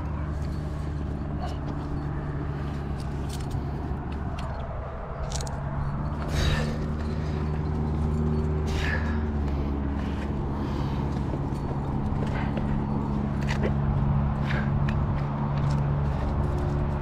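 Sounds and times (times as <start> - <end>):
distant motor traffic rumble: 0.0 - 17.0.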